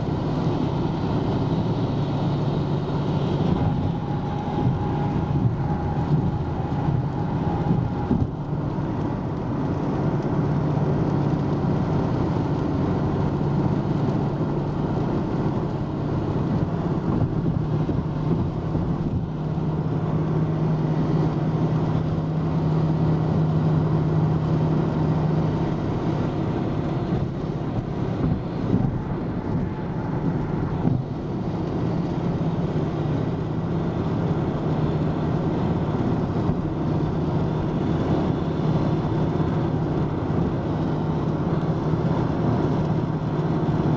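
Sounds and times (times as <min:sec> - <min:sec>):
low engine hum: 0:00.0 - 0:43.9
tyre and road noise: 0:00.0 - 0:43.9.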